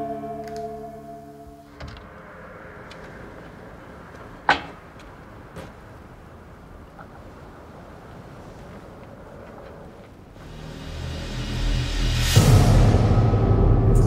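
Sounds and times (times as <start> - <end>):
outdoor night hum: 0.0 - 14.0.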